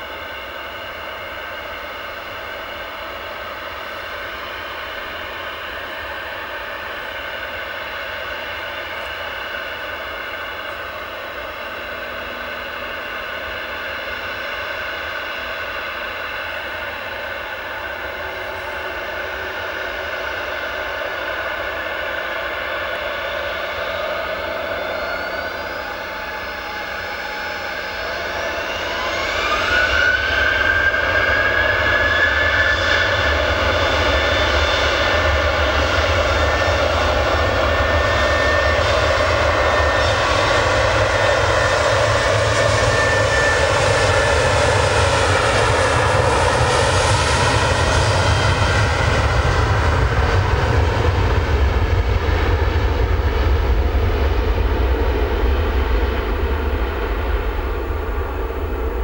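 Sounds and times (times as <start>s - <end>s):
jet engine fan whine: 0.0s - 59.0s
jet roar: 4.2s - 59.0s.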